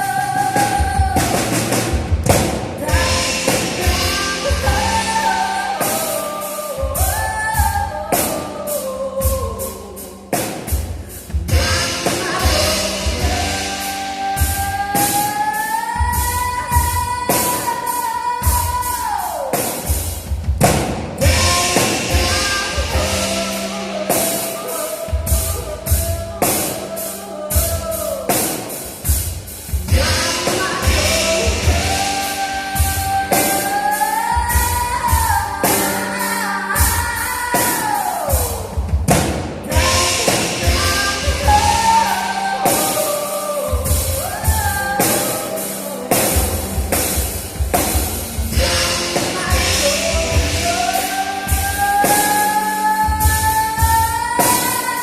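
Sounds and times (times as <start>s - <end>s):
woman singing sliding notes: 0.0s - 20.1s, 21.2s - 55.0s
drum kit: 0.0s - 55.0s
piano: 0.0s - 55.0s.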